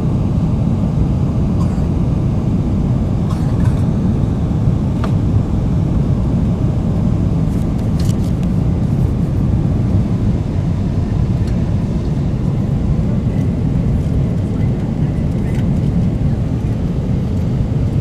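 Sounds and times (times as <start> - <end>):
airplane cabin roar in flight: 0.0 - 18.0.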